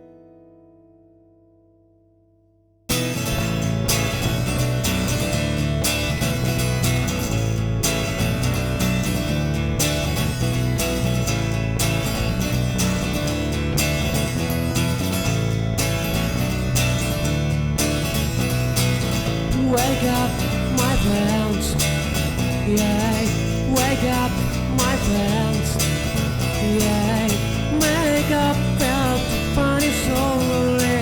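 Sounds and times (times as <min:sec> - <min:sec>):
strummed guitar music with beat: 0:00.0 - 0:31.0.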